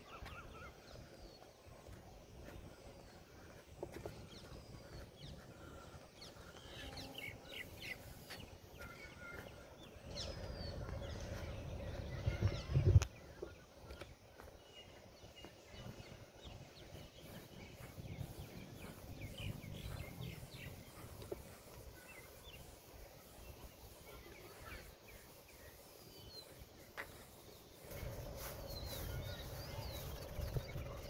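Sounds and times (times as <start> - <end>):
birds chirping: 0.0 - 31.0
faint outdoor background noise: 0.0 - 31.0.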